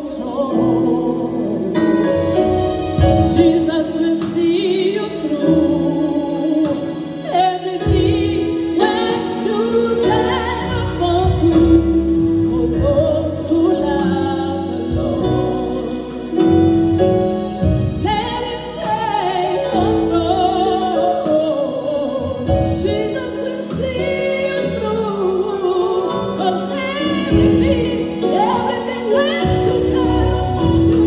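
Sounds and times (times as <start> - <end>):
electric keyboard accompaniment: 0.0 - 31.0
woman singing into microphone: 0.0 - 31.0.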